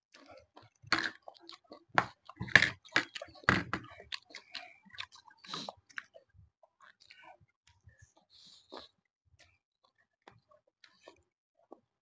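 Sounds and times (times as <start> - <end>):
food being chewed: 0.1 - 12.0.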